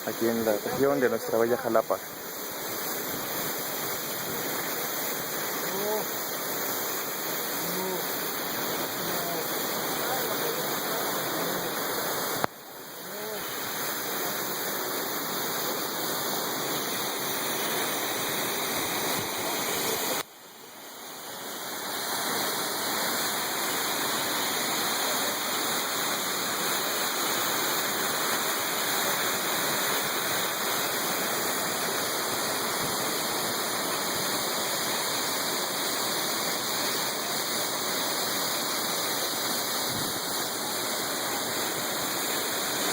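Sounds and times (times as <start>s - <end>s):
waterfall rushing: 0.0s - 20.3s, 20.9s - 42.9s.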